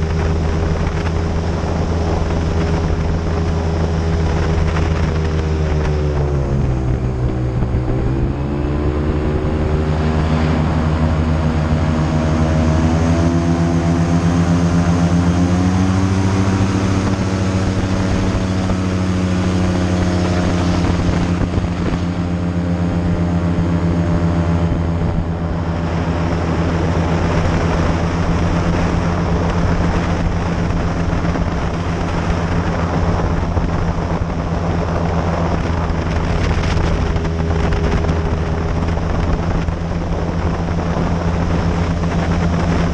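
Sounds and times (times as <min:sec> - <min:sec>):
airboat engine and propeller: 0:00.0 - 0:42.9.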